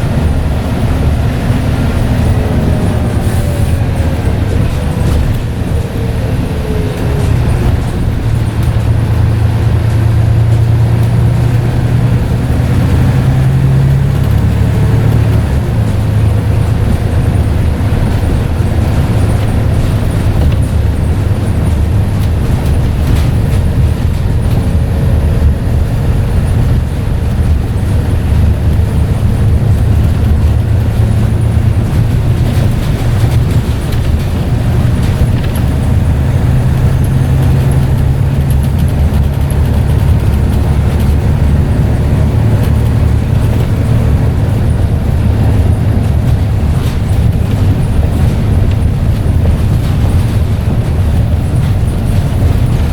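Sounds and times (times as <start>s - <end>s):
bus diesel engine droning: 0.0s - 52.9s.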